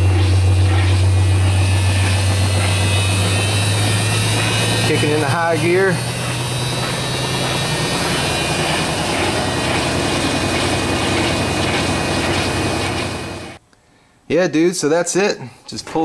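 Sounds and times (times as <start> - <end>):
washing machine spin cycle: 0.0 - 13.6.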